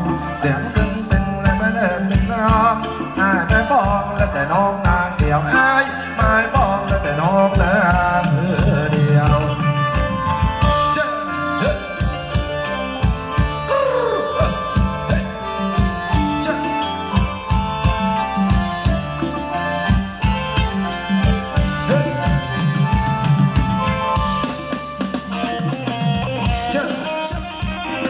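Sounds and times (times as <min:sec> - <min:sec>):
fast hand-drum beat: 0:00.0 - 0:11.0, 0:11.6 - 0:28.0
live band playing dance music: 0:00.0 - 0:28.0.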